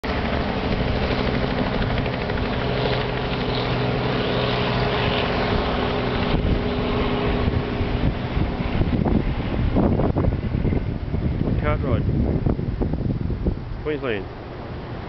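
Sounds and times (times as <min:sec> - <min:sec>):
aircraft engine drone: 0:00.0 - 0:15.0
wind on microphone: 0:00.0 - 0:15.0.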